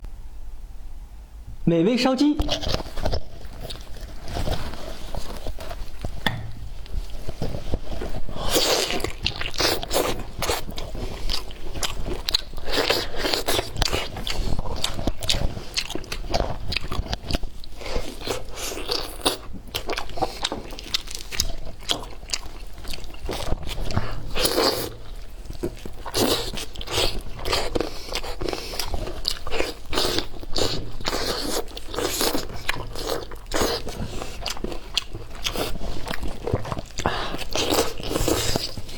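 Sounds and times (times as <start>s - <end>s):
person chewing with crunches: 2.4s - 38.9s.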